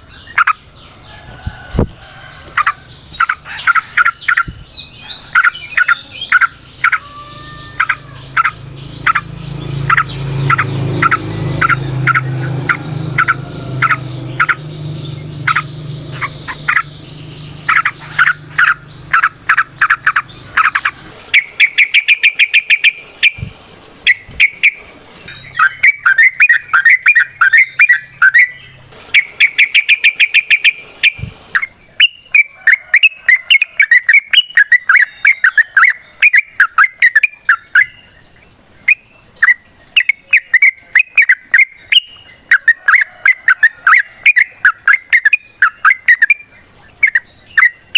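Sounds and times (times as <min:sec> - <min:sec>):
bird chattering song with trills: 0:00.0 - 0:47.9.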